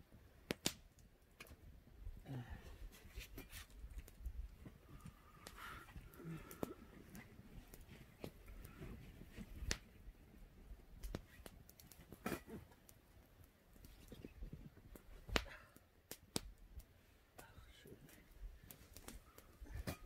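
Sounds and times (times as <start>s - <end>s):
campfire crackling: 0.0s - 20.0s
fire pops and snaps: 0.3s - 1.8s, 2.4s - 20.0s.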